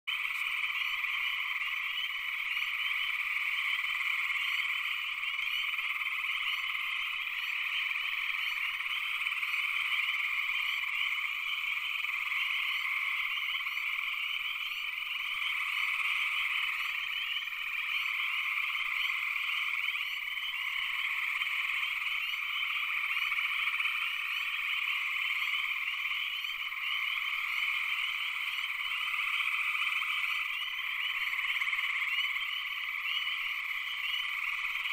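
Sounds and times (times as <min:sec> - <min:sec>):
frogs chorus: 0:00.0 - 0:34.9.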